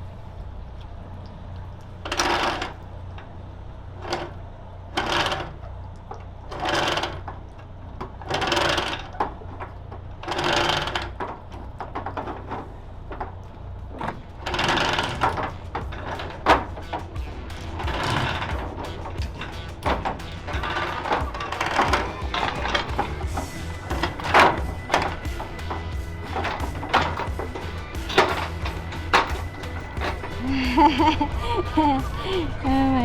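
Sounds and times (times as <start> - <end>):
anchor windlass hauling chain: 0.0 - 33.0
idling engines hum: 0.0 - 33.0.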